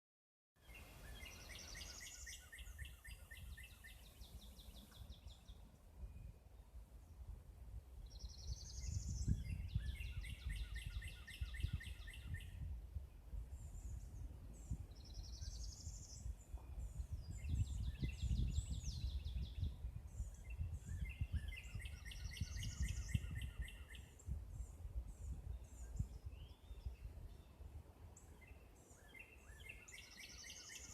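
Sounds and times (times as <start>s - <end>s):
songbird singing with trill: 0.6s - 7.3s, 8.0s - 30.9s.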